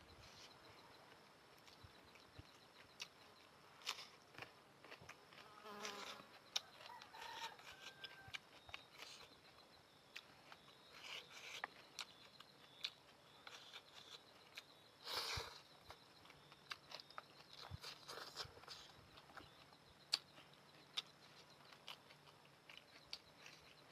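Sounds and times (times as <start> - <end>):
chewing noodles: 0.2 - 23.9.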